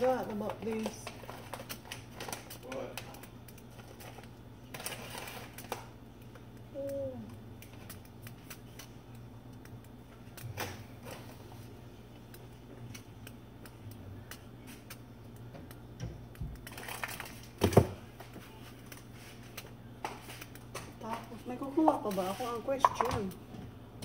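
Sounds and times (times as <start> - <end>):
packages rustling and clicking: 0.0 - 23.3.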